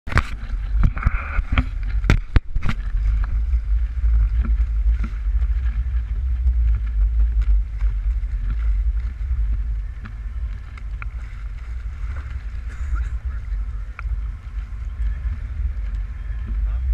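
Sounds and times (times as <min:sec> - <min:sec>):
boat through choppy water: 0:00.0 - 0:16.9
wind buffeting microphone: 0:00.1 - 0:16.9.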